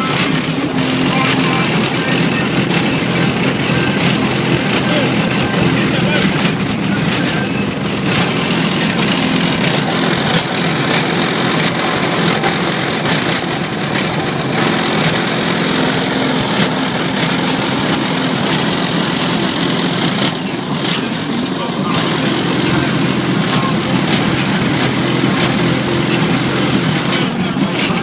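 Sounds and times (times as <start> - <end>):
loud bass from subwoofers: 0.0 - 28.0.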